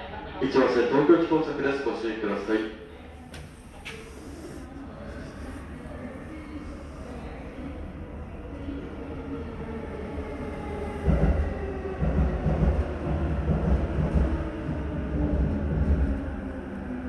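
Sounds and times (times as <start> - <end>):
train rumbling into platform: 0.0 - 17.0.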